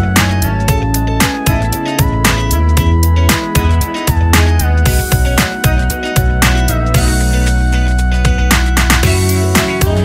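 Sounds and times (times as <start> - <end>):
held bass and sustained notes: 0.0 - 10.0.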